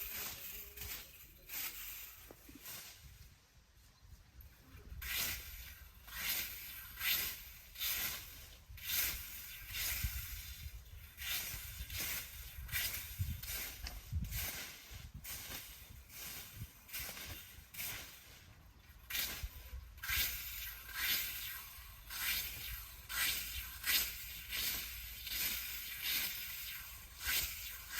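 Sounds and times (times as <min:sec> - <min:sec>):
rough scraping strokes: 0:00.0 - 0:03.3, 0:04.7 - 0:27.9.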